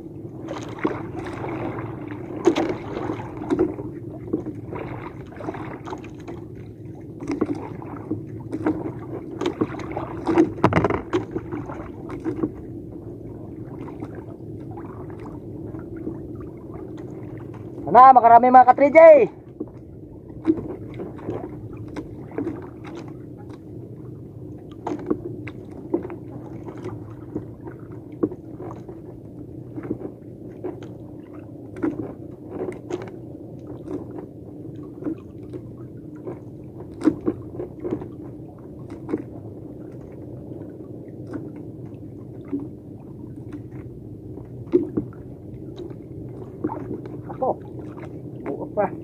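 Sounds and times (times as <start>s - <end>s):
boat engine humming: 0.0s - 49.0s.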